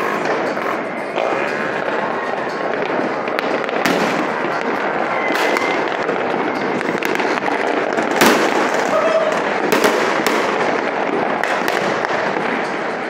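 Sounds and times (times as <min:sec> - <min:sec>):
fireworks crackling: 0:00.0 - 0:13.0
sharp firework bangs: 0:00.0 - 0:13.0.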